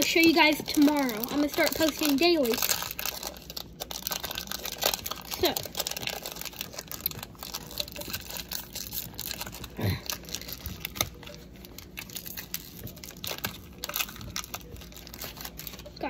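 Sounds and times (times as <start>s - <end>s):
foil wrapper crinkling and tearing: 0.0s - 16.0s.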